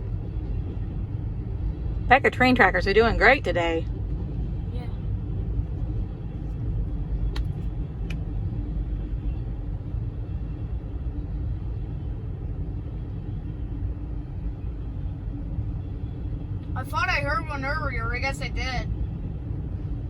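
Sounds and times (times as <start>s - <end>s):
low vehicle rumble: 0.0s - 20.0s.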